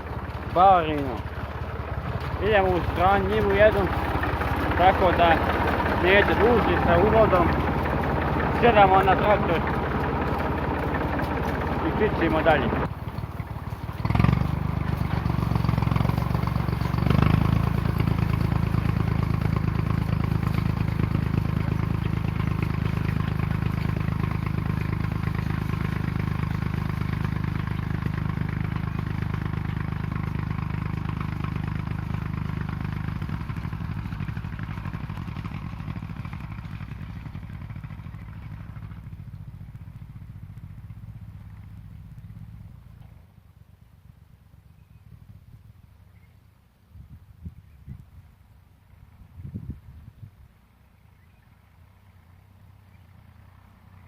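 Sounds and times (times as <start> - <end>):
tractor engine running: 0.0 - 44.3.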